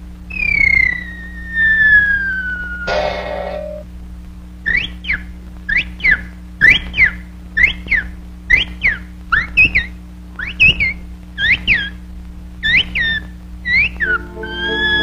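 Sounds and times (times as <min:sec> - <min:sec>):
low soundtrack hum: 0:00.0 - 0:15.0
cartoon bird chirps whistled: 0:00.3 - 0:02.9, 0:04.7 - 0:12.0, 0:12.6 - 0:15.0.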